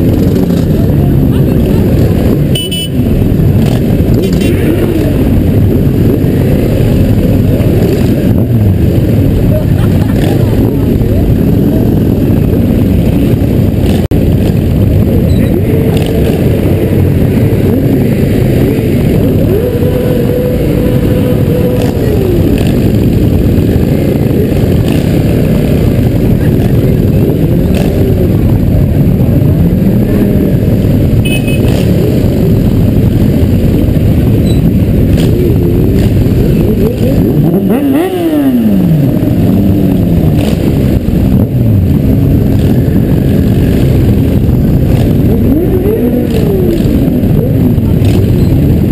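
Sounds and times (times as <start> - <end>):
motorcycle engines rumbling: 0.0 - 48.9.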